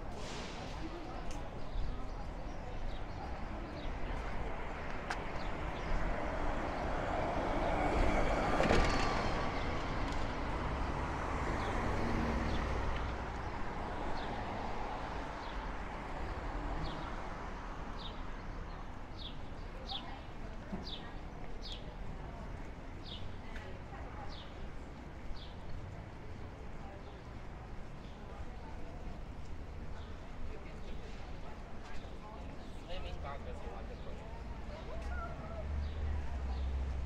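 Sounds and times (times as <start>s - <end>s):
street traffic hum: 0.0s - 37.0s.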